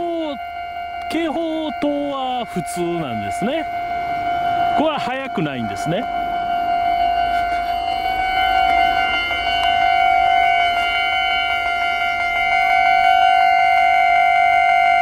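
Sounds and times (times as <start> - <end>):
level crossing warning alarm: 0.0 - 15.0.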